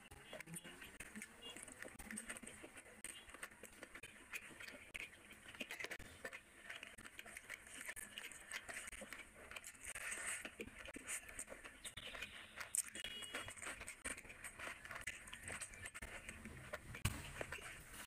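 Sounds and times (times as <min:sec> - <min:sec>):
chewing and mouth clicks: 0:00.1 - 0:18.0.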